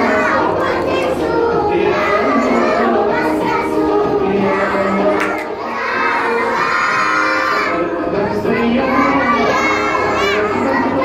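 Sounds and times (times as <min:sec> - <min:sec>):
children shouting and chanting: 0:00.0 - 0:11.0.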